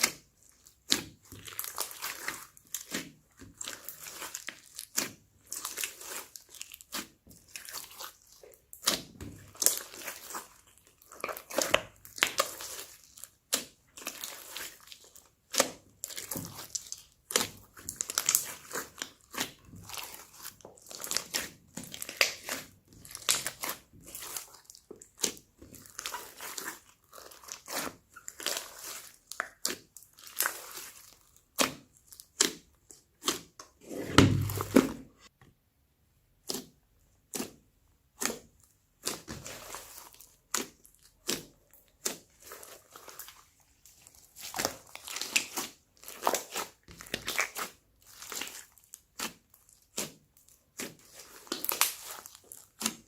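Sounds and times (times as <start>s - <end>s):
slime kneaded by hand: 0.0s - 53.0s
slime squelch: 0.0s - 53.0s.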